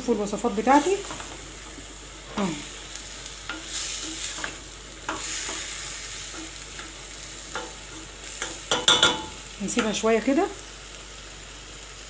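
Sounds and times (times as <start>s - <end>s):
beans sizzling in hot oil: 0.0s - 12.0s.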